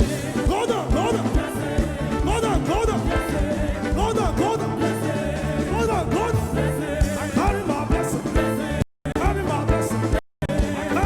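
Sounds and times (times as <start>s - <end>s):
people singing: 0.0s - 11.0s
upbeat gospel band music: 0.0s - 11.0s.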